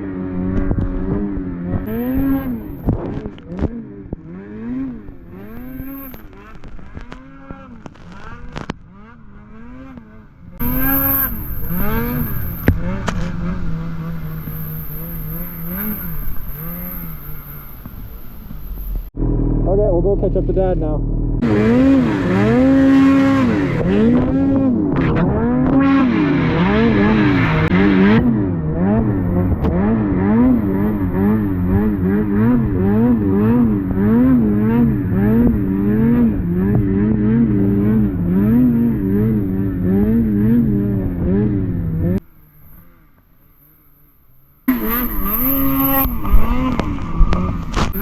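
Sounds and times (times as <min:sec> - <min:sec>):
snowmobile engine revving: 0:00.0 - 0:48.0.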